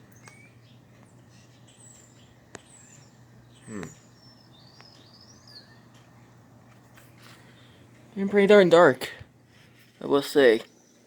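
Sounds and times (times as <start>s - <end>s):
birds chirping faintly: 0.0s - 11.0s
low steady hum: 0.0s - 11.0s.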